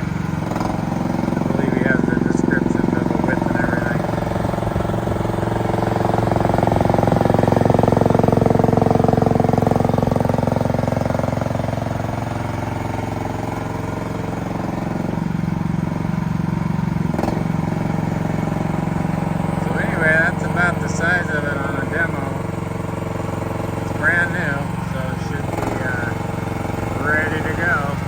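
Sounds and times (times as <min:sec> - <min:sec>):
mini excavator engine running: 0:00.0 - 0:28.0.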